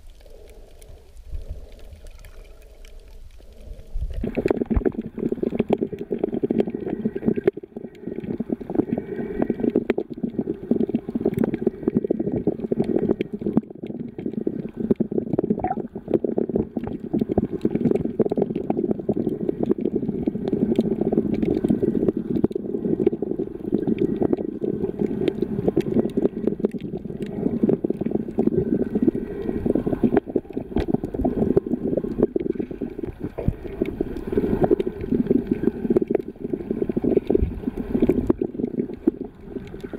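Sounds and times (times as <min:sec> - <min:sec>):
dense crackling clicks: 0:00.0 - 0:39.9
underwater rumble of moving water: 0:00.0 - 0:39.9.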